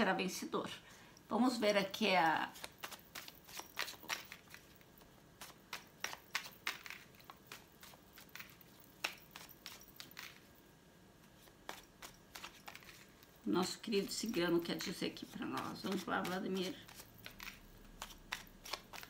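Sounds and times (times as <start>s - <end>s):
cards being shuffled: 2.4s - 10.6s, 11.2s - 19.0s.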